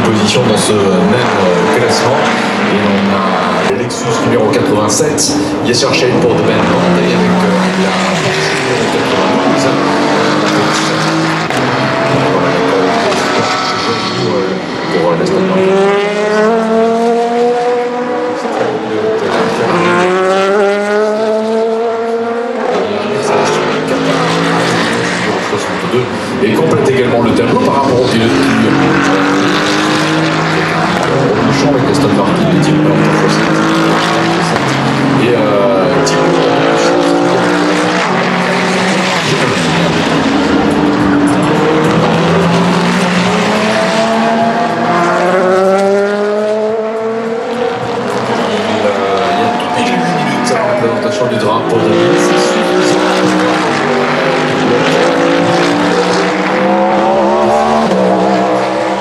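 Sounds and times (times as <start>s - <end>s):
race car accelerating: 0.0s - 59.0s.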